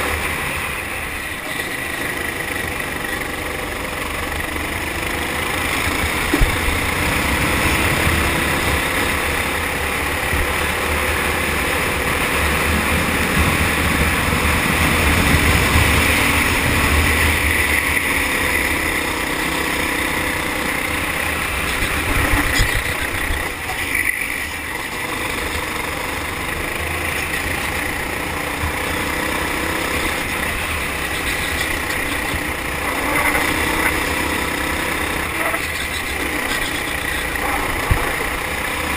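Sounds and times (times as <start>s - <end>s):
kart engine at racing speed: 0.0s - 38.9s.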